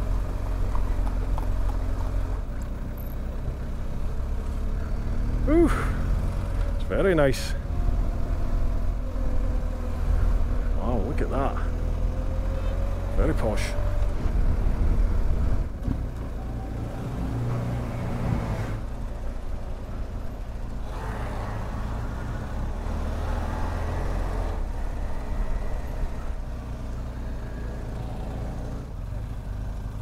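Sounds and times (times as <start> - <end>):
wind and road noise: 0.0 - 30.0.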